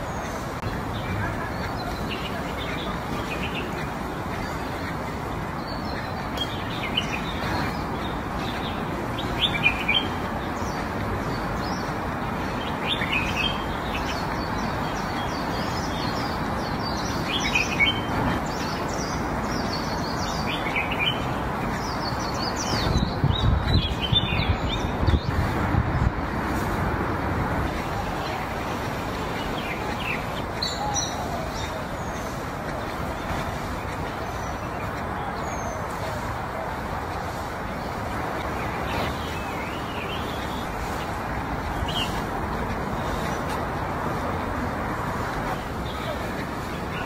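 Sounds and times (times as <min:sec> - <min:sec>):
small birds chirping: 0:00.0 - 0:47.0
steady background hiss: 0:00.0 - 0:47.0.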